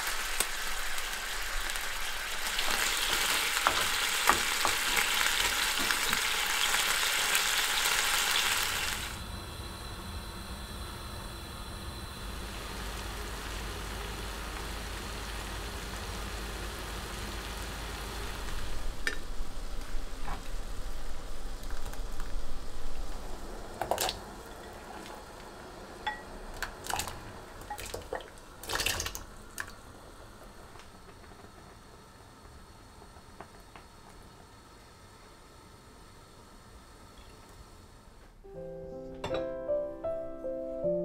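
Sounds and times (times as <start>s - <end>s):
pot of water hissing: 0.0s - 38.1s.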